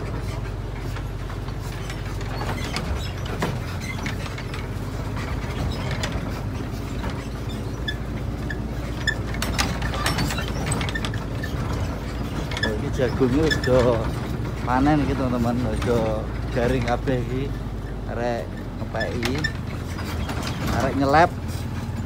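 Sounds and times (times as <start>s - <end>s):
engine and road rumble: 0.0s - 22.0s
rattles and knocks: 0.0s - 22.0s.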